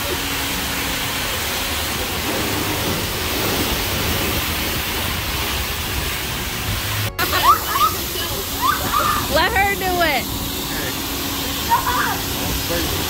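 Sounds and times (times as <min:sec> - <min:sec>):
high-pressure water spray hissing: 0:00.0 - 0:13.0.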